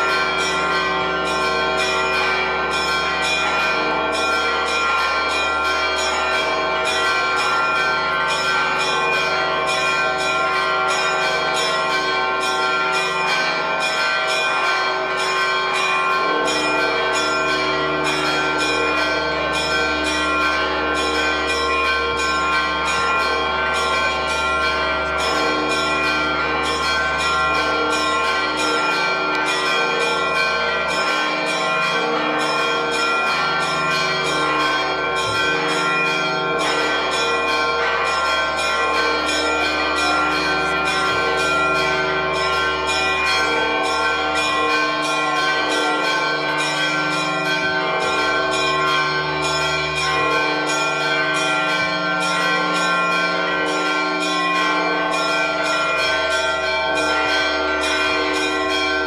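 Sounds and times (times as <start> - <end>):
church bells ringing fast: 0.0 - 59.0.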